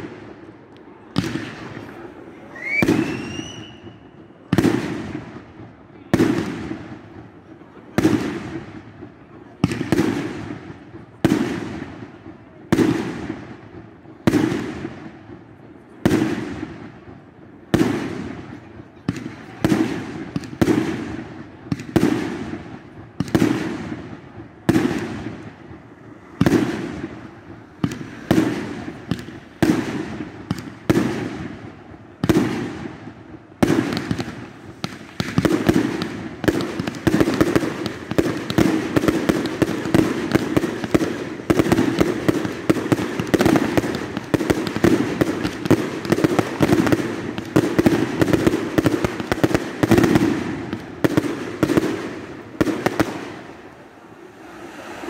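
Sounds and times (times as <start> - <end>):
fireworks bursts banging: 0.0 - 55.0.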